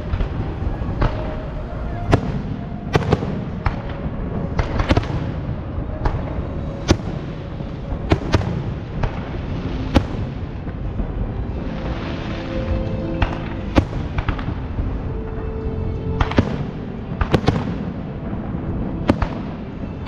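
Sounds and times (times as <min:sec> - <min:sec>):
low rumble of explosions: 0:00.0 - 0:20.0.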